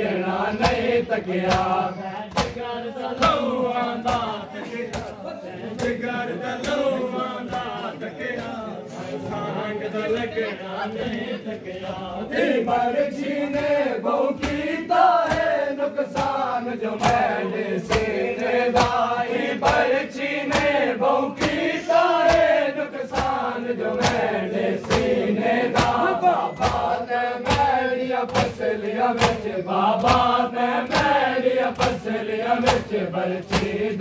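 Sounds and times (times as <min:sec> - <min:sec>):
men singing a lament in unison: 0:00.0 - 0:34.0
rhythmic chest-beating slaps: 0:00.0 - 0:34.0.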